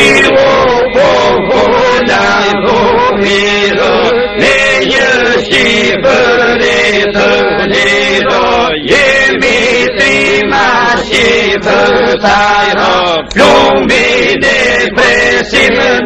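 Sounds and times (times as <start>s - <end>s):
men singing together: 0.0s - 16.0s.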